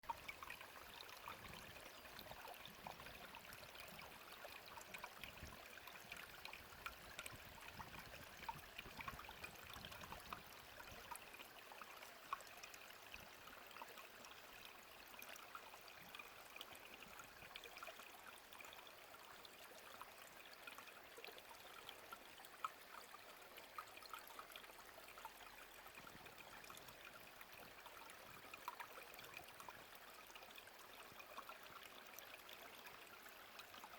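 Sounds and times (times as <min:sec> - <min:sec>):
stream babbling over rocks: 0:00.1 - 0:33.9.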